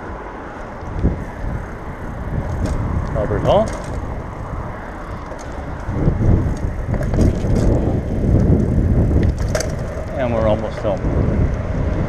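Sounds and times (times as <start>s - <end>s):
rumble of bicycle tyres: 0.0s - 12.0s
wind on microphone: 0.7s - 12.0s.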